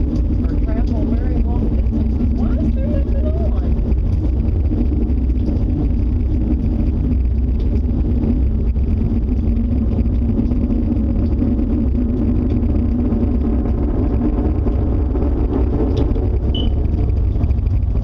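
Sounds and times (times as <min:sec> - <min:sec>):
low roar of storm wind: 0:00.0 - 0:18.0.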